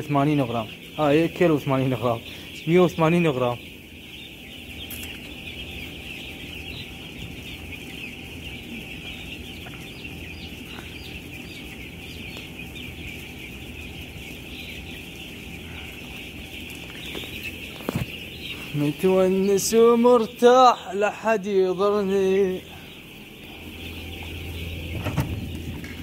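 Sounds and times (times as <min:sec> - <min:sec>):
chicks cheeping: 0:00.0 - 0:26.0
low steady hum: 0:00.0 - 0:26.0.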